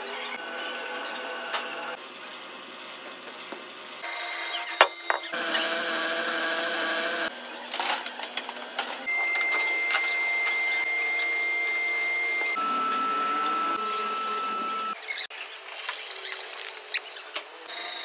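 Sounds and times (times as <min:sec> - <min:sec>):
workshop machine hum: 0:00.0 - 0:15.3.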